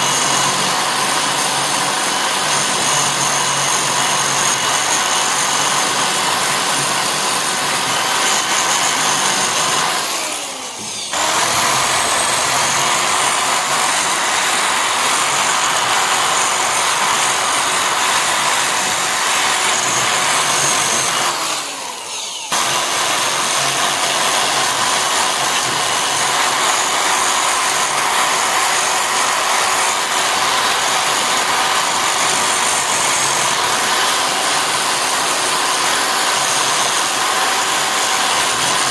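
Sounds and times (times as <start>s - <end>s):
electric power tool motor running: 0.0s - 38.9s.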